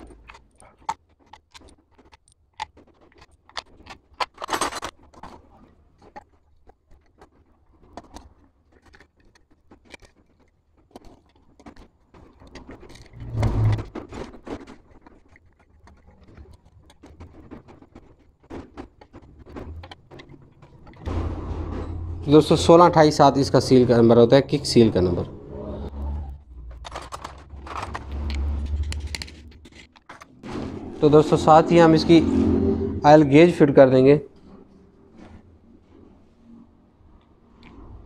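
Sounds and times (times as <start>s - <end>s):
metal clatter: 0.0s - 24.8s, 26.4s - 32.5s.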